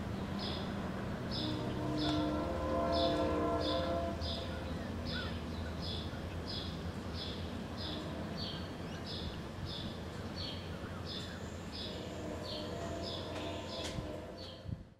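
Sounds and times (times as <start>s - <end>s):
diesel locomotive rumbling: 0.0s - 14.9s.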